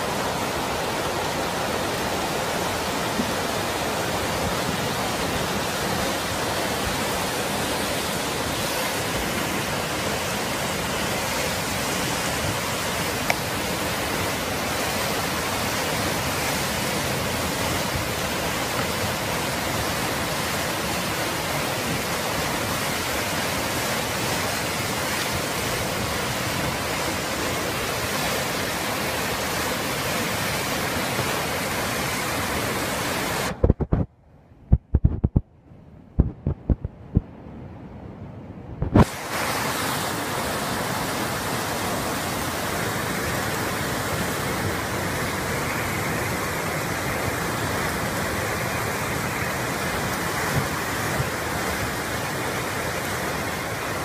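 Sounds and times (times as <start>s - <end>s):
flood water rushing: 0.0s - 34.0s, 38.8s - 54.0s.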